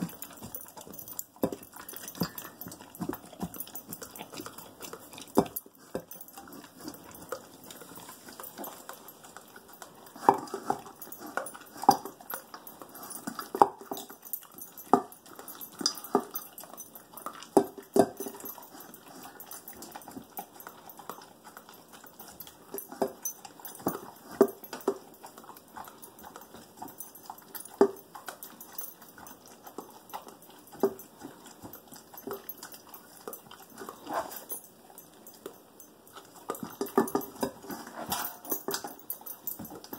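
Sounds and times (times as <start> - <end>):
dog crunching kibble: 0.0 - 39.9.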